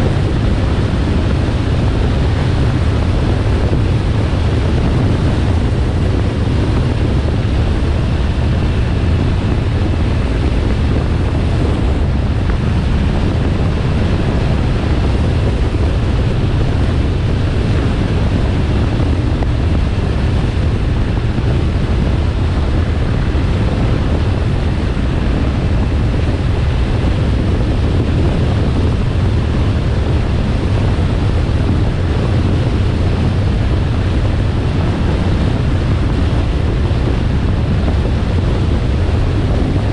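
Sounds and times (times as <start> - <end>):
low even rumble: 0.0 - 39.9
wind buffeting microphone: 0.0 - 39.9.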